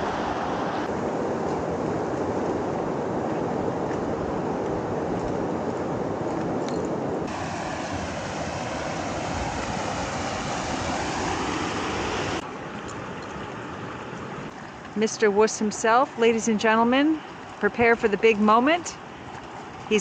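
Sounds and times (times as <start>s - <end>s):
river water rushing: 0.0s - 3.2s, 7.0s - 20.0s.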